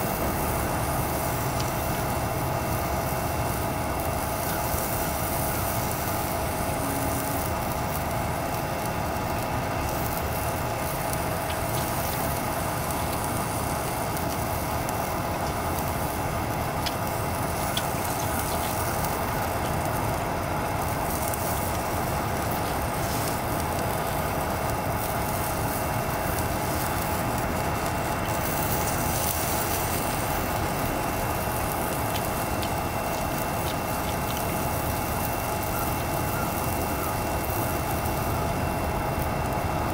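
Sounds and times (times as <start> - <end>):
food frying in pan: 0.0 - 39.9
gas stove hissing: 0.0 - 39.9.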